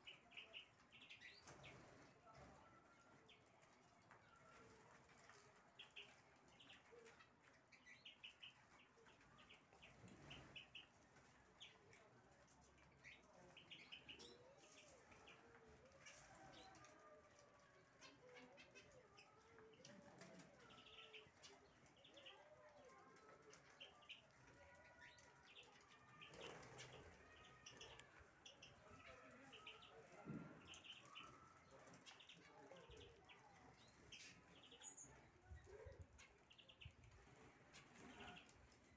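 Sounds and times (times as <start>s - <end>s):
faint chirping of cage birds: 0.0s - 38.9s.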